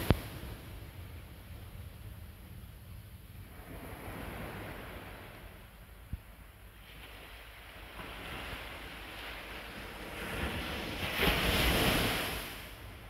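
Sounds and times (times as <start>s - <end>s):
ocean waves breaking on beach: 0.0s - 2.2s, 3.3s - 13.0s.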